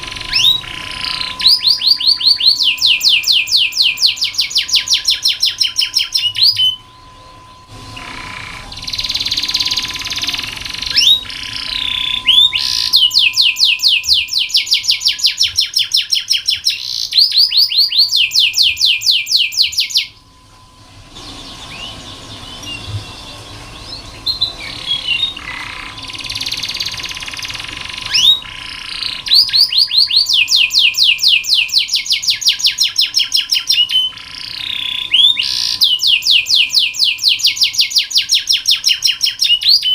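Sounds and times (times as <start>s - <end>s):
canary singing: 0.0s - 20.4s, 21.2s - 39.9s
faint high hum: 0.0s - 39.9s.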